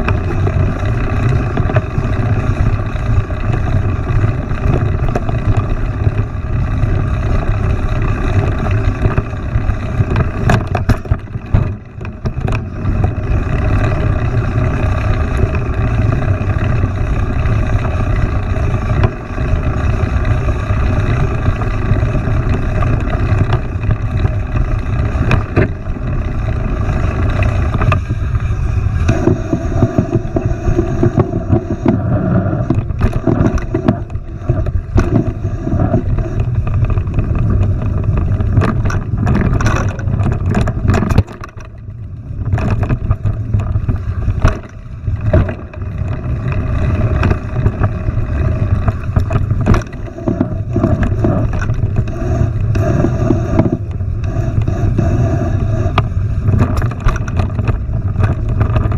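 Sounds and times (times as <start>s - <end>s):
bike knocks and rattles: 0.0s - 55.2s, 55.9s - 58.9s
wind rumble on microphone: 0.0s - 58.9s.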